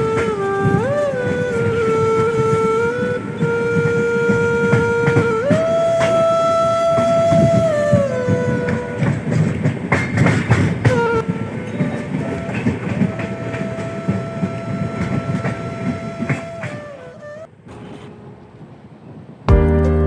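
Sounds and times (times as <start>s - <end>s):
train horn blasts: 0.0s - 10.0s, 10.8s - 18.5s
train clattering on rails: 0.0s - 19.5s.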